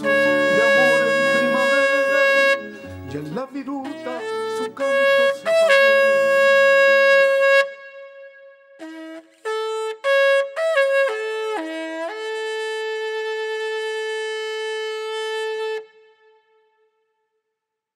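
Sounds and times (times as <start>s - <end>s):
solo wind instrument melody: 0.0s - 17.0s.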